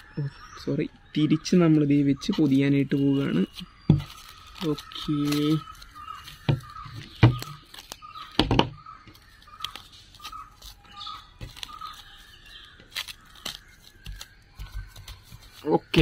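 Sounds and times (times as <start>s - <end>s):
cling film crinkling: 1.7s - 16.0s.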